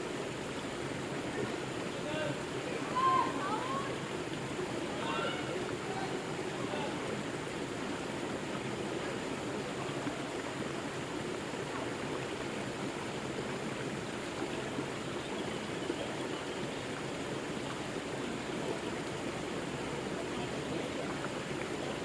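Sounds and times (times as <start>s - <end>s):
river flowing over rocks: 0.0s - 22.0s.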